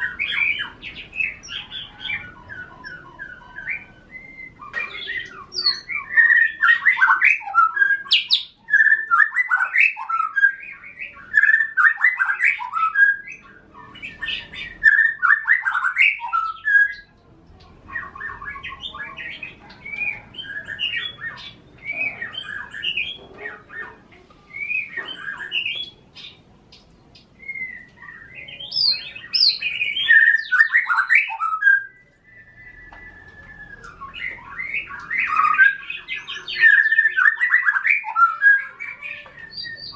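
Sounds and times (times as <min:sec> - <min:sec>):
chirps and whistles: 0:00.0 - 0:17.2, 0:17.9 - 0:39.9
caged songbirds singing: 0:00.0 - 0:39.9.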